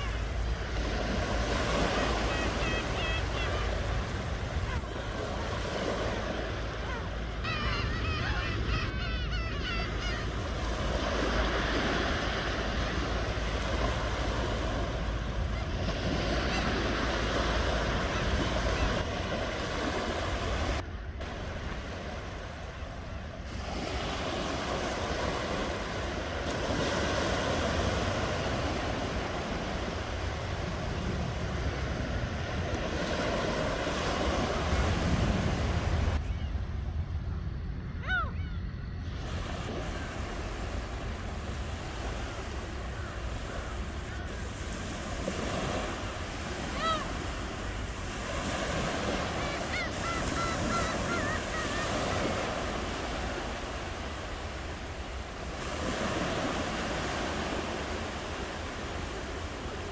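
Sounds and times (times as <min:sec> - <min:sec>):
ocean waves breaking ashore: 0:00.0 - 0:59.9
wind rumble on microphone: 0:09.7 - 0:59.9.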